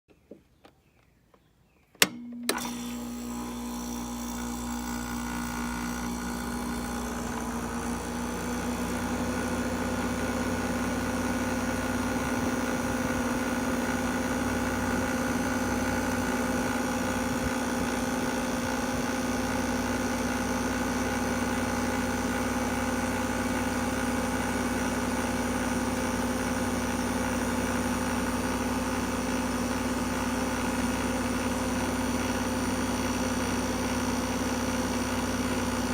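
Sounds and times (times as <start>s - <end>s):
machine humming with whine: 2.0s - 35.9s.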